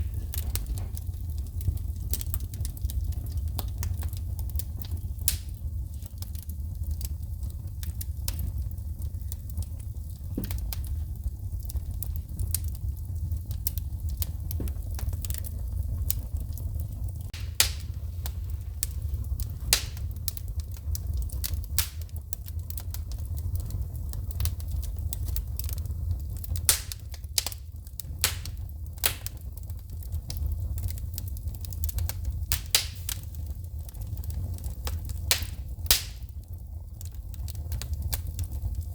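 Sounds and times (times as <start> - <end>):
wood fire crackling in fireplace: 0.0 - 38.9.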